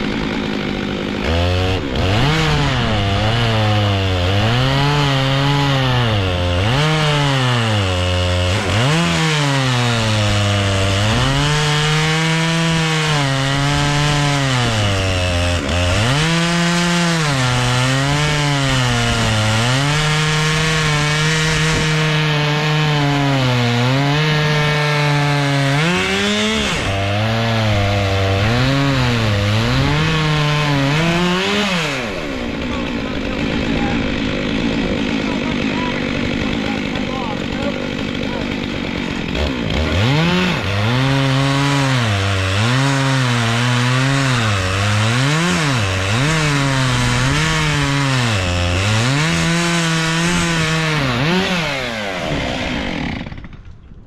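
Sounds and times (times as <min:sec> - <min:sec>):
chainsaw cutting through log: 0:00.0 - 0:54.0.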